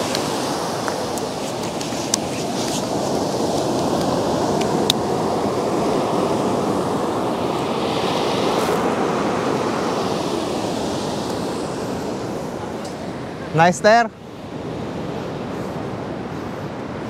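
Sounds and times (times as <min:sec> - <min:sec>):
ocean surf breaking: 0:00.0 - 0:17.0
water hissing over sand: 0:00.0 - 0:17.0.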